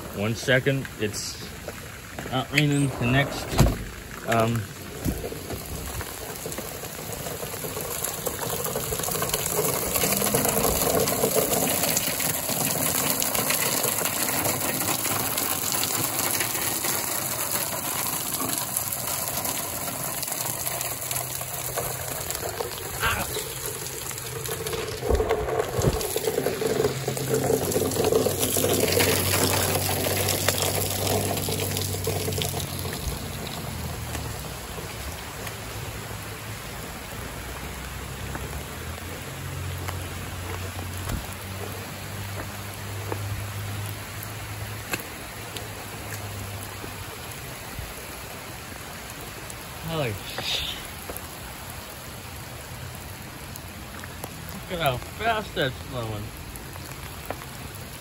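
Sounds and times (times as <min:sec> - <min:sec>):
rain pouring on asphalt: 0:00.0 - 0:58.0
water gushing from drain pipe: 0:00.0 - 0:58.0.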